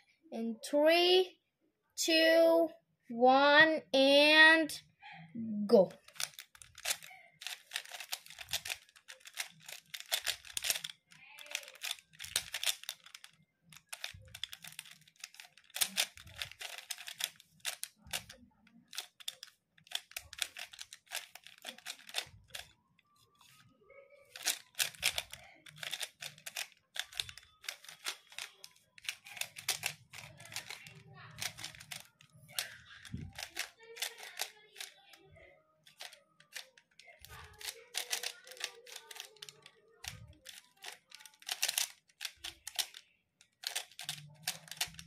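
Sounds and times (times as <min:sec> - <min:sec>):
puzzle cube clicking: 0:06.0 - 0:22.8, 0:24.3 - 0:35.2, 0:35.8 - 0:45.0.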